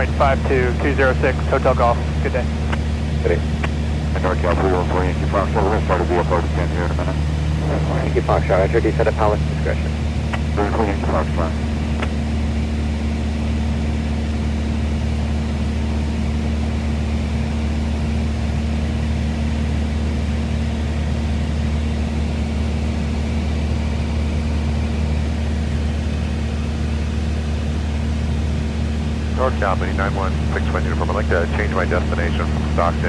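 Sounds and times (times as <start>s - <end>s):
airplane engine and propeller drone: 0.0s - 33.0s.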